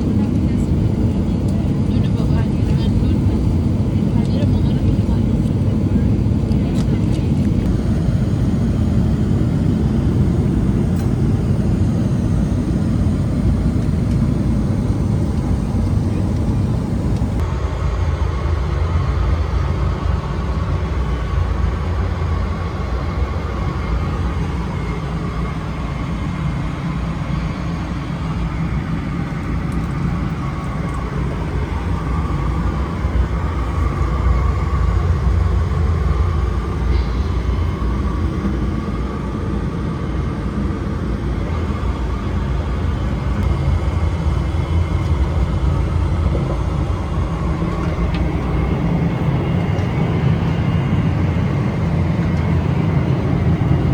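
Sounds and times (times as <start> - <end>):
jet engine cabin rumble: 0.0 - 53.9
steady whine: 0.0 - 53.9.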